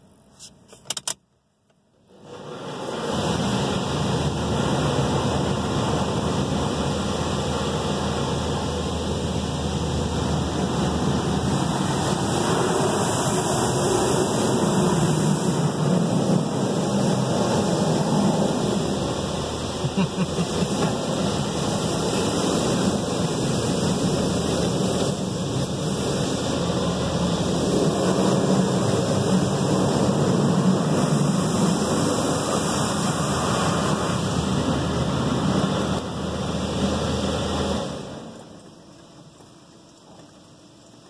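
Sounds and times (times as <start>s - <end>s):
water spray rushing: 2.1s - 38.6s.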